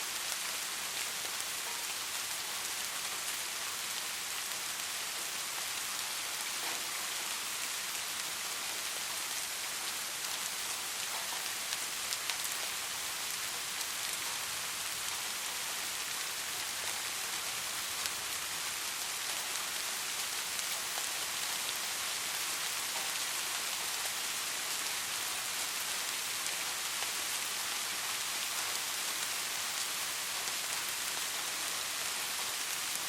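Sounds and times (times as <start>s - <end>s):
soft rain: 0.0s - 33.0s.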